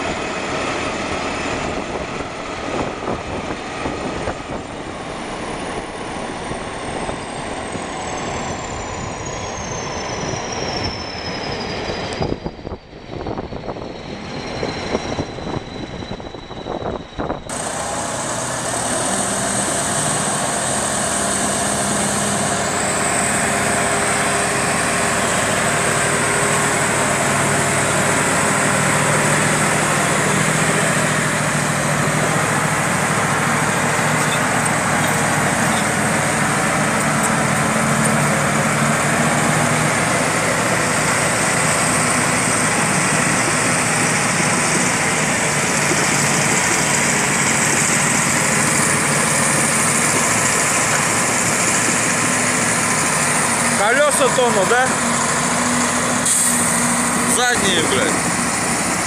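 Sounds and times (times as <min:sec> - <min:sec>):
bulldozer diesel engine running: 0:00.0 - 0:59.0
heavy truck engine running: 0:00.0 - 0:59.0.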